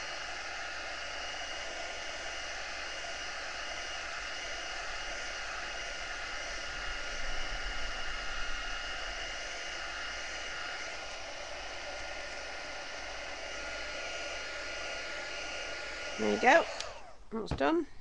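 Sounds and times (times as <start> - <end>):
heat gun blowing: 0.0 - 17.7.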